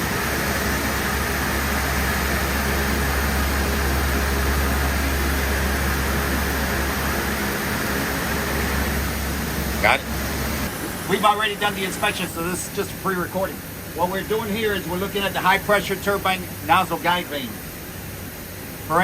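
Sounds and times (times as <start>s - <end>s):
machinery hiss: 0.0s - 19.0s
machinery low hum: 0.0s - 19.0s.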